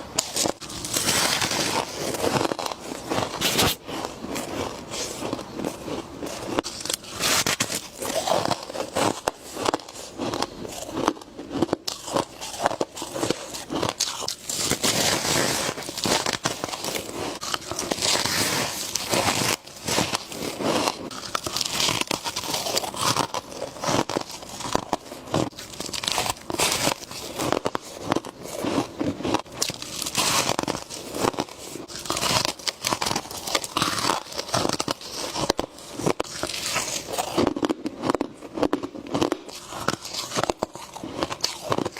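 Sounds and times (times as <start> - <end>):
frost being chewed with crunches: 0.0 - 41.9.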